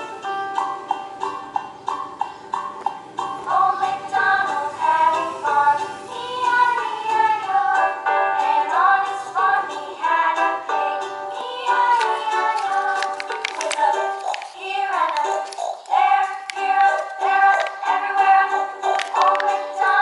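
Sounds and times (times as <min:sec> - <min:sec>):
children's song with sung melody: 0:00.0 - 0:20.0.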